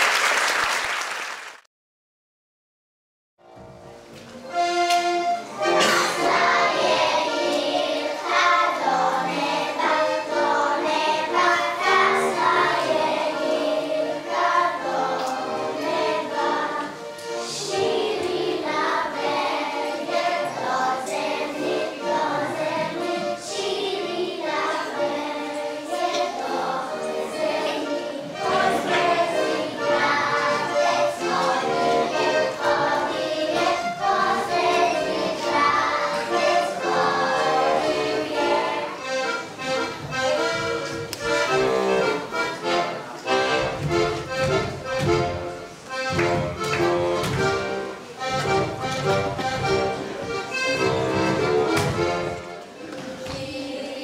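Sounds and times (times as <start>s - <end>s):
accordion: 4.0s - 54.0s
children singing: 5.4s - 54.0s.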